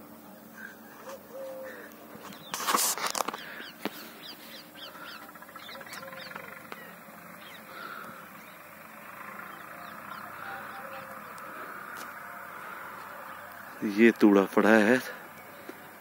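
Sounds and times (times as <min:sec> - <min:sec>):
faint outdoor hiss: 0:00.0 - 0:16.0
small birds chirping: 0:00.2 - 0:16.0.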